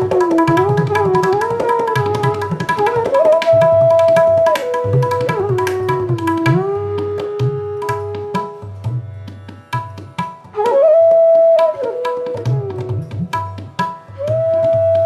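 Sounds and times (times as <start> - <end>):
flute playing long sliding notes: 0.0 - 8.7, 10.5 - 13.1, 14.2 - 15.0
tabla strokes: 0.0 - 15.0.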